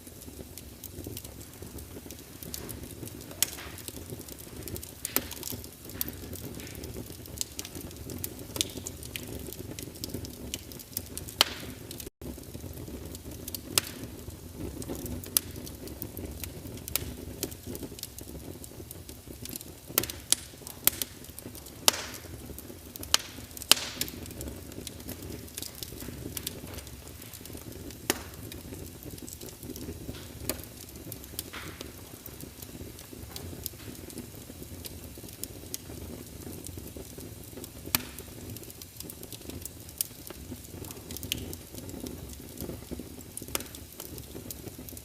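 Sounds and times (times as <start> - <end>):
flames rushing: 0.0 - 45.0
logs crackling and popping: 0.0 - 45.0.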